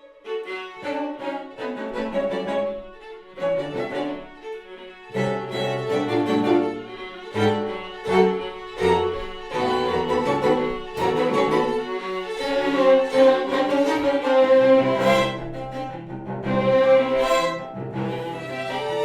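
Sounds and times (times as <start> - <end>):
cello low notes: 0.0 - 19.0
string quartet bowed chords: 0.0 - 19.0.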